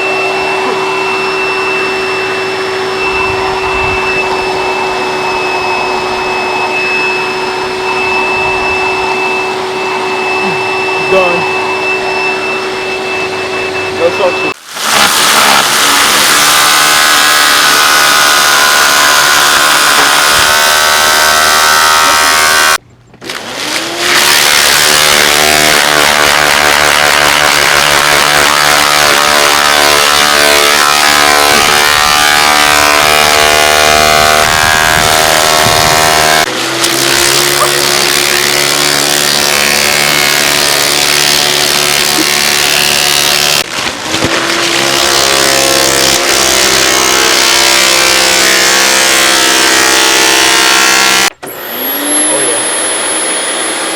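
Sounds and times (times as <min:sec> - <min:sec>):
vacuum cleaner motor running: 0:00.0 - 0:53.9.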